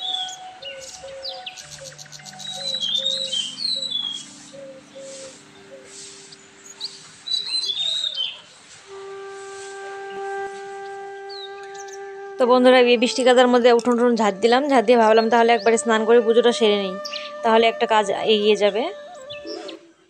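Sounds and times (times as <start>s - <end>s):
birds chirping: 0.0s - 20.0s
soft background music: 0.0s - 20.0s.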